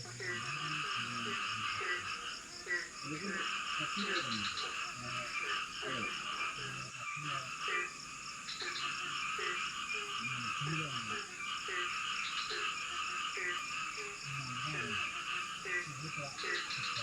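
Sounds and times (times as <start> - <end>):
frogs croaking: 0.0 - 17.0
insect chorus: 0.0 - 17.0.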